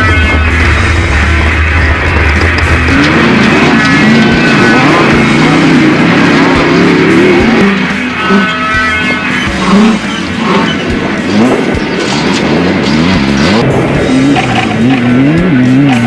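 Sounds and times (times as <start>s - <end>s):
race car engine revving: 0.0s - 16.0s
rock music: 0.0s - 16.0s.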